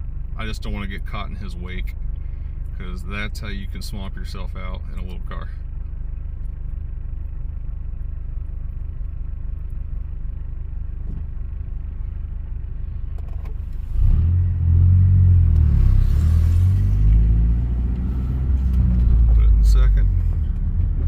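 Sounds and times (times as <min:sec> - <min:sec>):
car engine idling and accelerating: 0:00.0 - 0:21.0.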